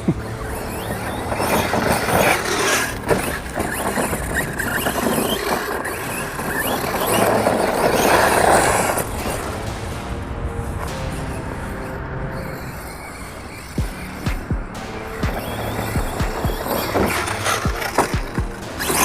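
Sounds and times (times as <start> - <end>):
electric motor whining: 0.0 - 19.0
tyres churning dirt: 0.0 - 19.0.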